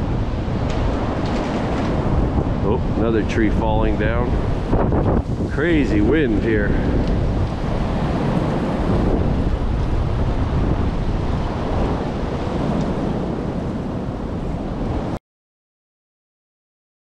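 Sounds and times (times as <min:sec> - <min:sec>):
strong wind through trees: 0:00.0 - 0:15.2
wind buffeting microphone: 0:00.0 - 0:15.2.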